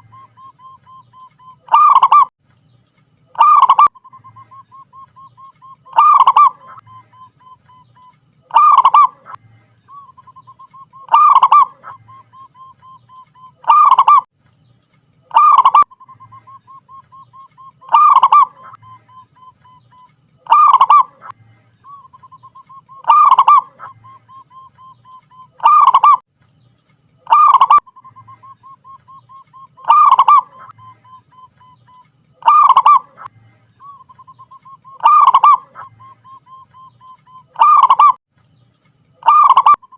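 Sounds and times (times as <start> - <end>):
dove cooing: 0.0 - 2.3, 3.3 - 14.3, 15.3 - 26.2, 27.2 - 38.2, 39.2 - 39.9.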